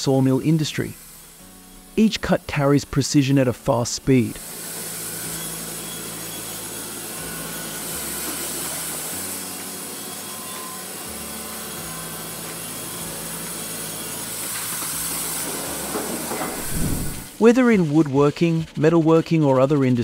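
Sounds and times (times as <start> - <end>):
band sawmill cutting log: 0.0 - 20.0.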